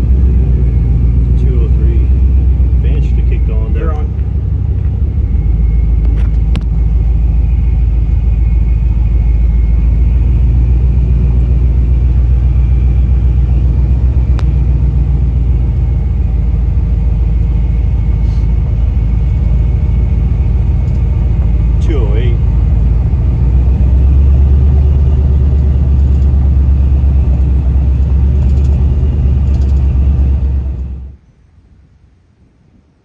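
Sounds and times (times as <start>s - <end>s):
truck engine rumble: 0.0s - 33.0s.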